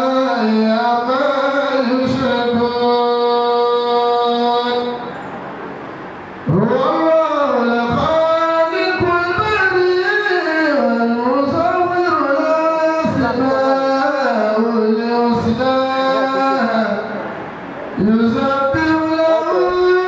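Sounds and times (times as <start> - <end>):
man chanting into a microphone: 0.0 - 5.2, 6.4 - 17.3, 17.9 - 20.0.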